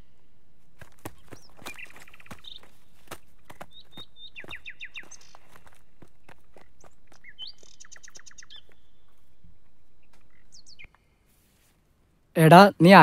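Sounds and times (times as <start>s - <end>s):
birds chirping: 0.0s - 11.4s
footsteps on dirt path: 0.4s - 11.7s.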